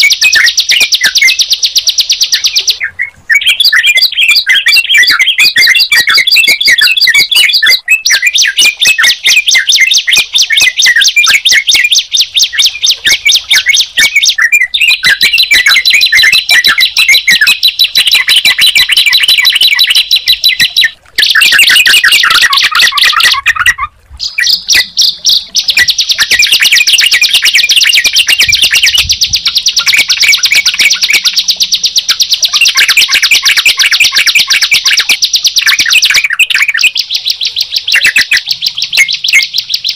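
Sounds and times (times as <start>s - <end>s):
high fast bird chirps and trills: 0.0s - 39.9s.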